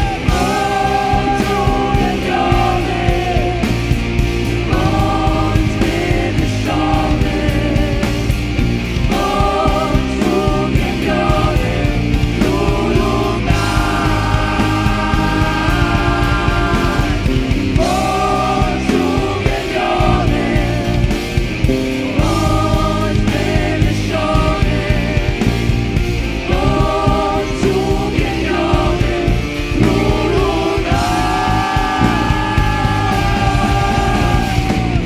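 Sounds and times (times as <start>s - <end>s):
person singing: 0.0s - 25.8s, 26.4s - 35.0s
worship band playing: 0.0s - 35.0s.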